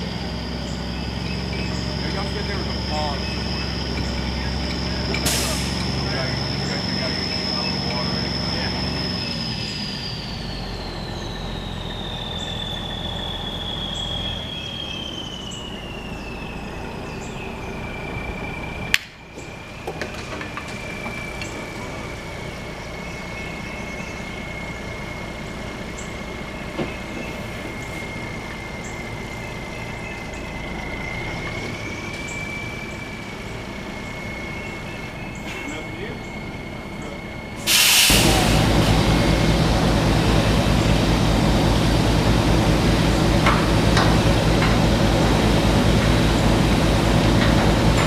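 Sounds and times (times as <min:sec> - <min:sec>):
drilling rig whining: 0:00.0 - 0:48.0.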